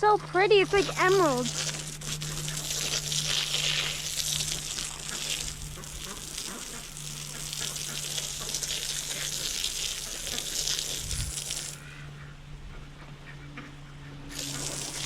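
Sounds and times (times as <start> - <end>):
water filling a container: 0.0 - 11.8, 14.3 - 15.0.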